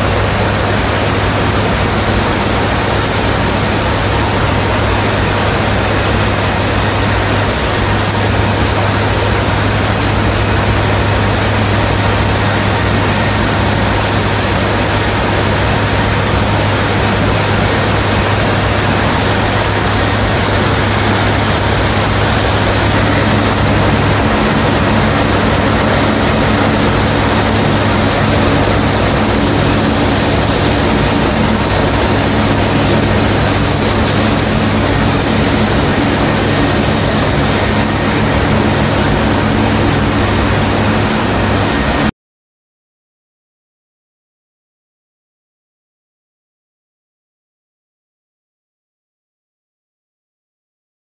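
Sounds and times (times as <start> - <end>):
turboprop engines droning: 0.0 - 42.1.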